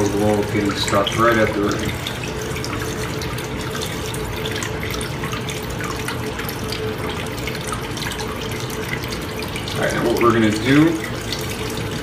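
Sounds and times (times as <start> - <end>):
faint steady hum: 0.0 - 12.0
water swirling in a bowl: 0.0 - 12.0.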